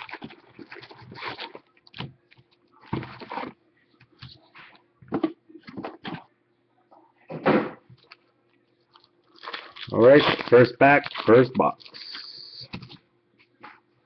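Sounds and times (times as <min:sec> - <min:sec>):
cardboard and wrappers rustling: 0:00.0 - 0:06.3, 0:08.8 - 0:13.9.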